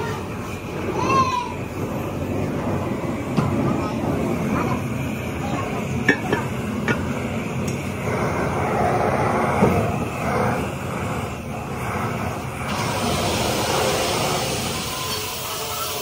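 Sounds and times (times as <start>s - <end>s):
machinery roaring: 0.0s - 16.0s.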